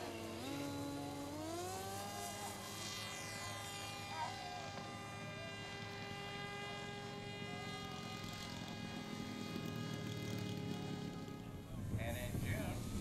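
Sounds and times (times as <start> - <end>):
model plane motor droning: 0.0 - 13.0.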